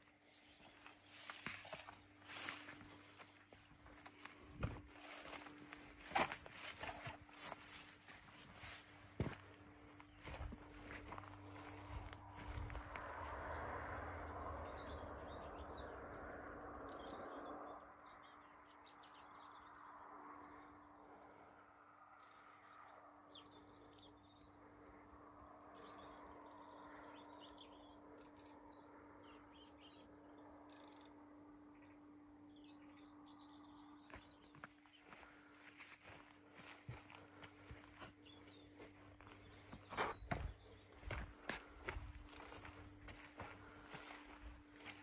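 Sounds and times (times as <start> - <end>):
small songbirds chirping: 0.0 - 21.5, 22.1 - 45.0.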